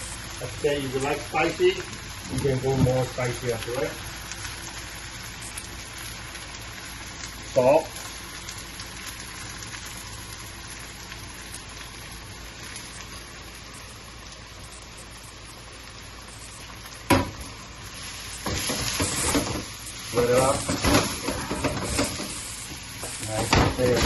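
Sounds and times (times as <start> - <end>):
oil sizzling in a pan: 0.0 - 24.0.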